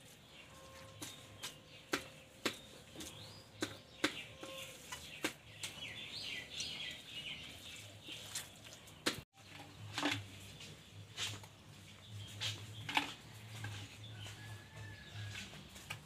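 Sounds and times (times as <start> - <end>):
birds chirping: 0.0 - 16.0
hand working batter in steel plate: 0.0 - 16.0.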